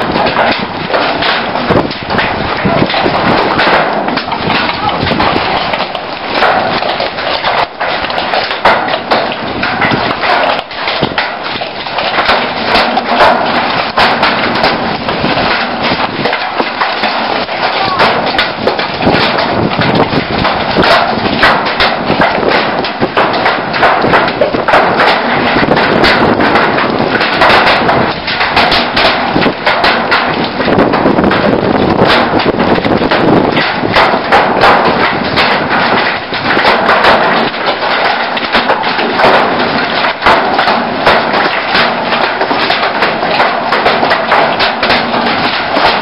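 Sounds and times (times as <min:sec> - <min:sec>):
hailstones clattering on roof: 0:00.0 - 0:46.0.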